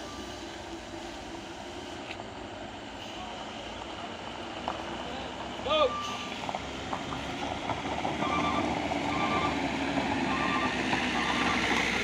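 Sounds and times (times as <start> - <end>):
heavy truck engine: 0.0 - 12.0.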